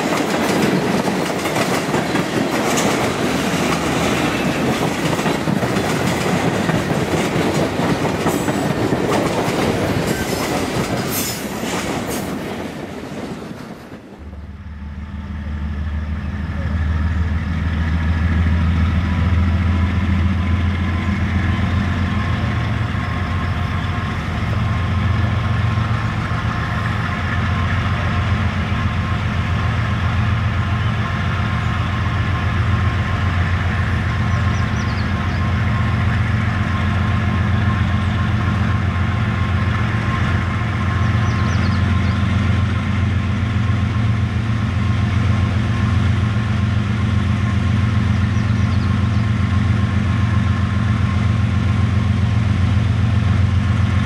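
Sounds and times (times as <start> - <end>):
deep locomotive engine drone: 0.0 - 13.2, 13.9 - 54.0.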